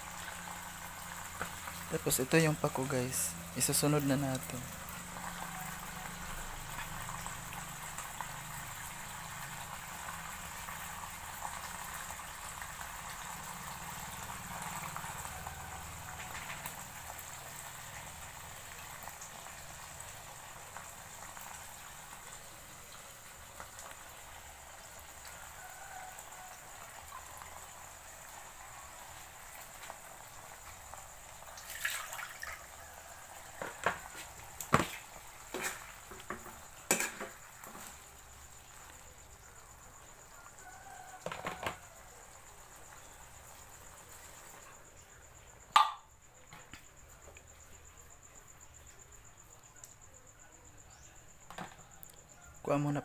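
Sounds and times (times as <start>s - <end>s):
sauce bubbling in a wok: 0.0s - 46.2s.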